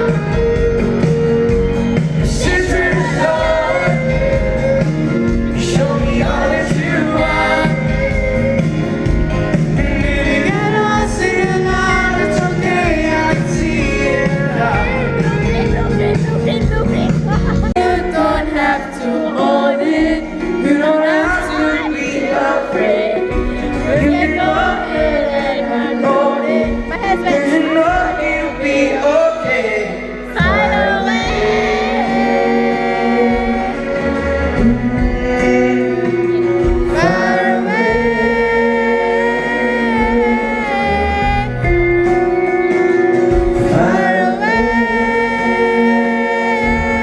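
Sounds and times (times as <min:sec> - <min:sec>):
band playing pop music: 0:00.0 - 0:47.0
person singing: 0:00.0 - 0:47.0.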